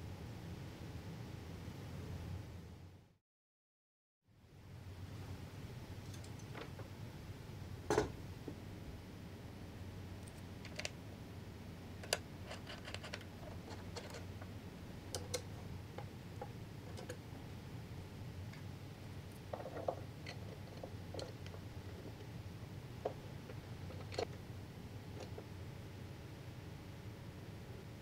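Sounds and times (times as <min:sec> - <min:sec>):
low steady hum: 0:00.0 - 0:03.2, 0:04.3 - 0:28.0.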